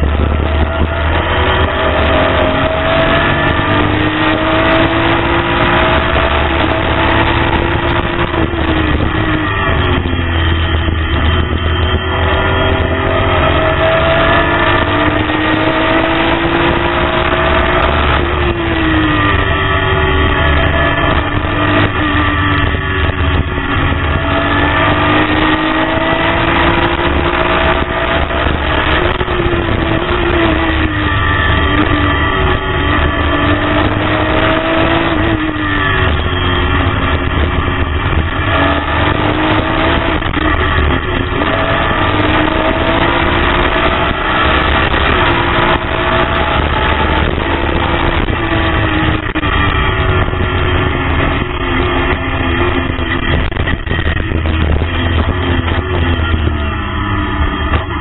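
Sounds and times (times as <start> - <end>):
low road rumble: 0.0 - 58.0
race car engine revving through gears: 0.0 - 58.0.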